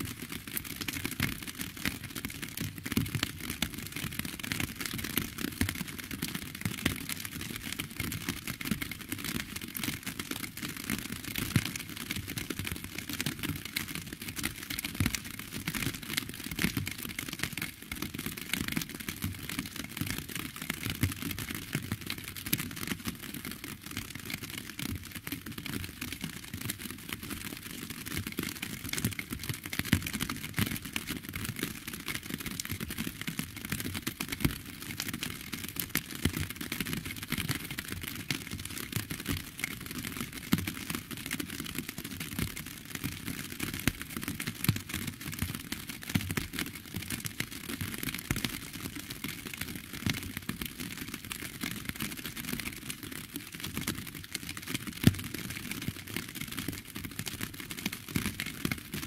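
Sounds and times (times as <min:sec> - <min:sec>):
steady rain patter: 0:00.0 - 0:55.9.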